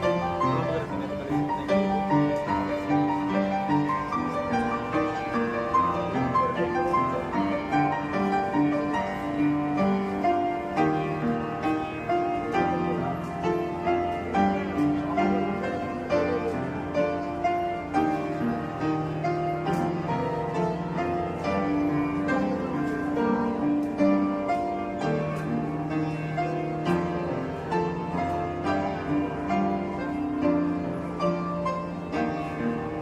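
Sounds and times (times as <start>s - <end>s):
instrumental piano music: 0.0s - 33.0s.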